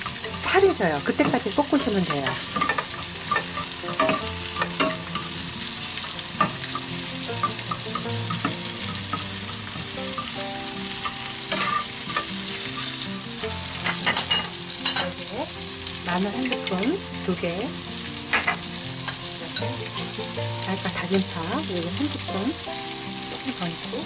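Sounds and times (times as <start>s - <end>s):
utensils tapping and scraping pan: 0.0s - 15.3s, 16.1s - 16.9s, 18.3s - 22.6s
vegetables sizzling in a pan: 0.0s - 24.0s.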